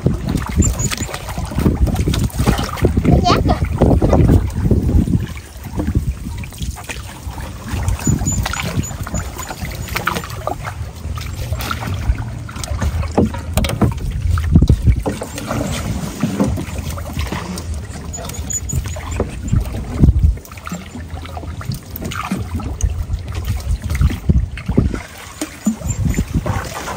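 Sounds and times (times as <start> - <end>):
water splashing and sloshing: 0.0 - 26.9
wind buffeting microphone: 0.0 - 26.9.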